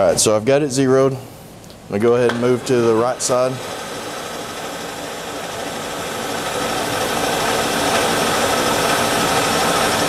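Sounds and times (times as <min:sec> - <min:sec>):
machine motor humming: 0:01.9 - 0:10.0.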